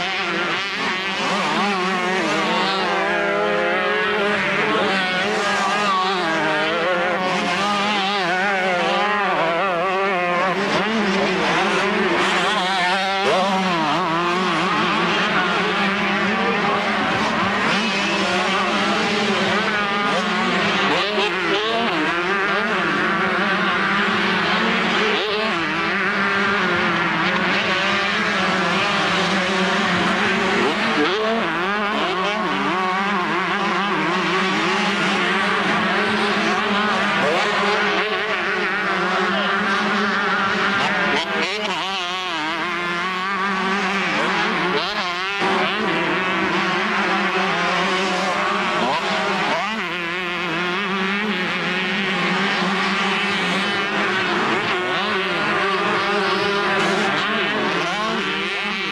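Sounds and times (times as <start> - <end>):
motocross bikes revving: 0.0 - 58.9.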